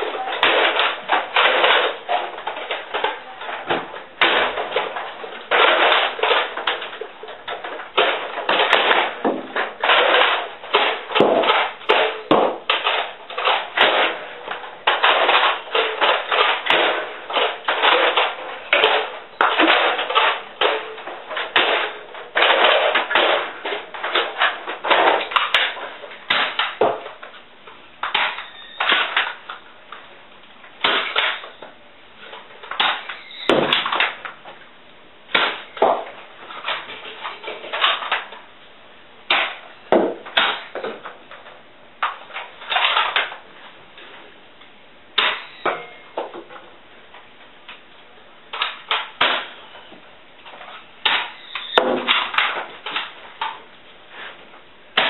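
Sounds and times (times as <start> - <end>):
plastic clatters and knocks: 0.0 - 30.1, 30.7 - 34.7, 35.3 - 38.5, 39.3 - 44.2, 48.5 - 55.0.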